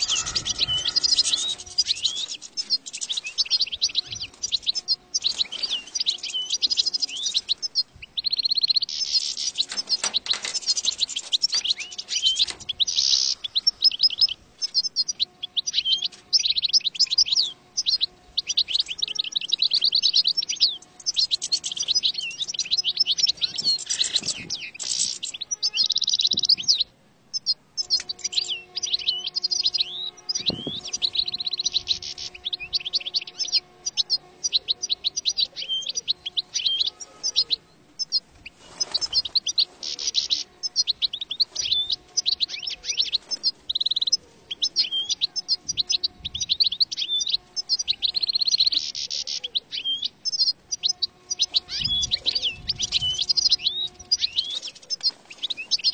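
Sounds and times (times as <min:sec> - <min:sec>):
goldfinch twittering song: 0:00.0 - 0:55.9.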